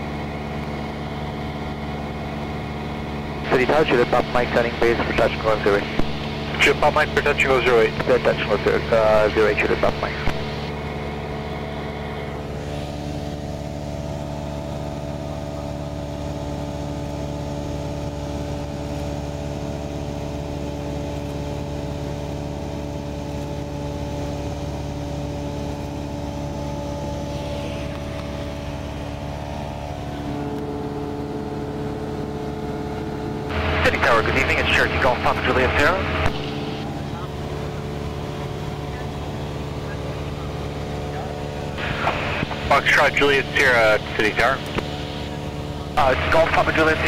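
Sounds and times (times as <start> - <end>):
propeller plane engine droning: 0.0 - 47.0.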